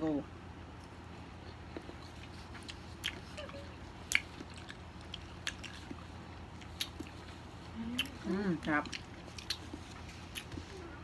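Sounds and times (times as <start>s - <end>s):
faint steady hum: 0.0s - 11.0s
wet chewing mouth sounds: 0.8s - 10.9s.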